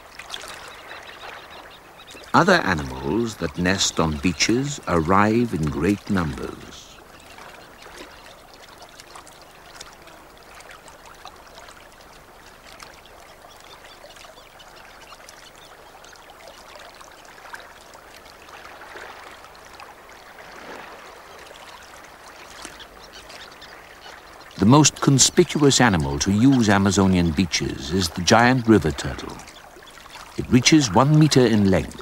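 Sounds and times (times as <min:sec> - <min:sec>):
river water lapping and trickling: 0:00.0 - 0:32.0
small splashes and drips: 0:00.0 - 0:32.0.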